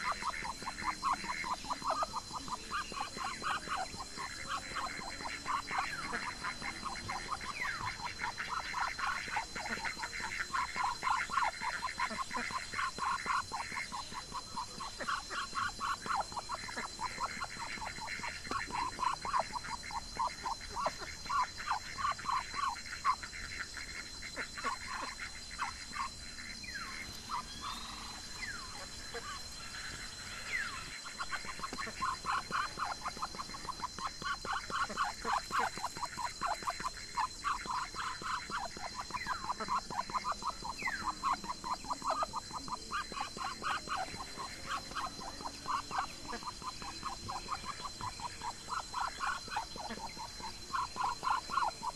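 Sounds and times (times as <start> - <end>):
ducks quacking softly: 0.0 - 51.9.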